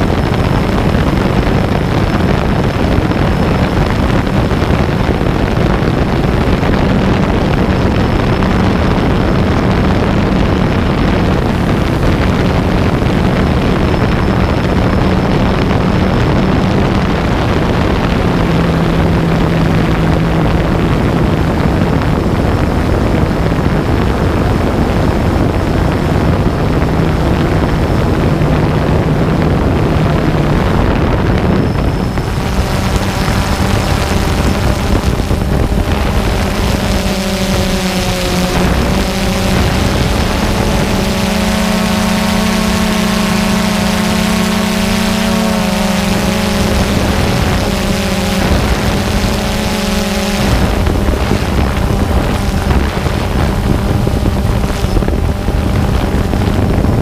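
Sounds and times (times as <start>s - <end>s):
drone motors and propellers: 0.0s - 57.0s
faint high whine: 0.0s - 57.0s
wind rush: 0.0s - 57.0s.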